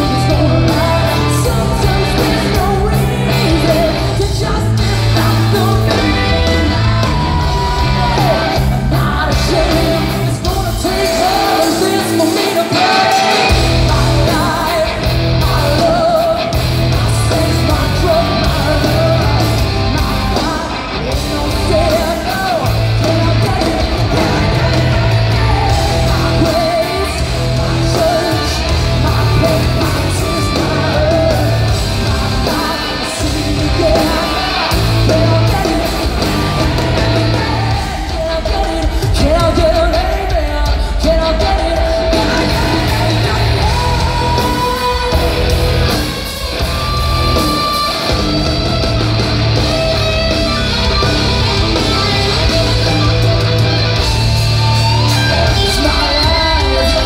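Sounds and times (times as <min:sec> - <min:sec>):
woman singing: 0:00.0 - 0:45.6, 0:54.8 - 0:57.0
hard rock band playing live: 0:00.0 - 0:57.0.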